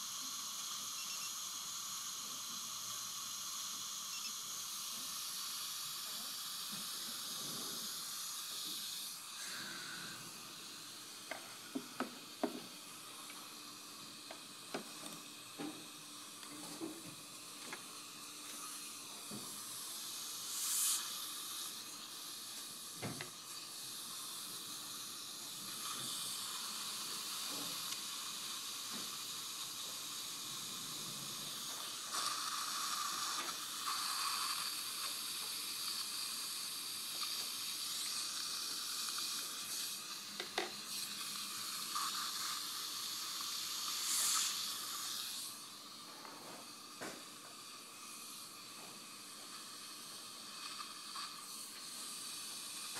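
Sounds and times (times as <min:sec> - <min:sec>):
dental suction hiss: 0:00.0 - 0:52.9
short hissing bursts: 0:00.0 - 0:52.9.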